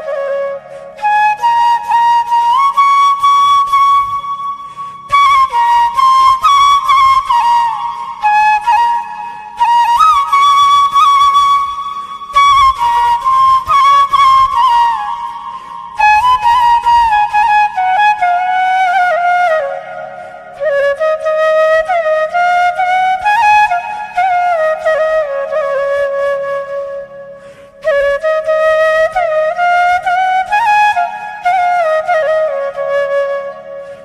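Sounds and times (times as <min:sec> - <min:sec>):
slow flute melody: 0:00.0 - 0:34.0.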